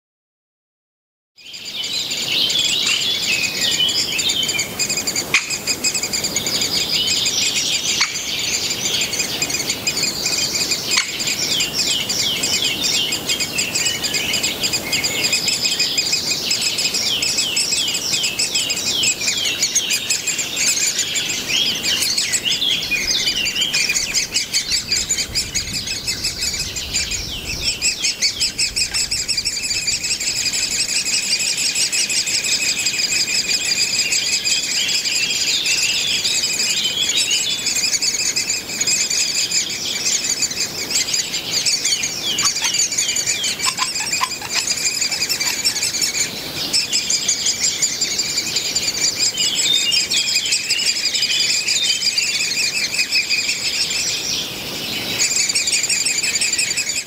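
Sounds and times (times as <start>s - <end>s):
nestlings begging chatter: 1.6s - 57.0s.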